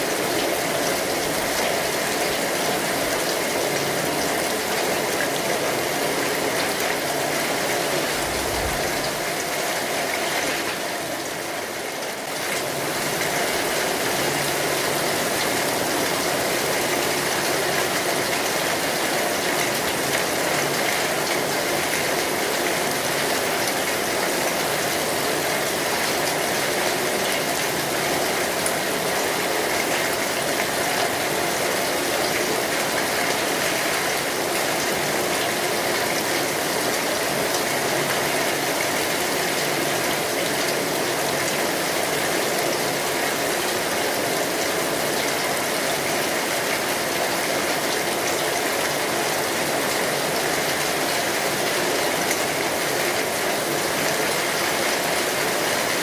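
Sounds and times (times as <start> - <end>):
rain falling on an umbrella: 0.0 - 56.0.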